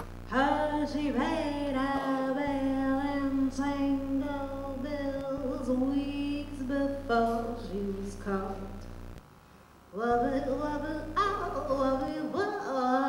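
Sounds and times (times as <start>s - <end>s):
woman singing solo: 0.0s - 8.8s, 10.0s - 13.0s
low electrical hum: 0.0s - 13.0s.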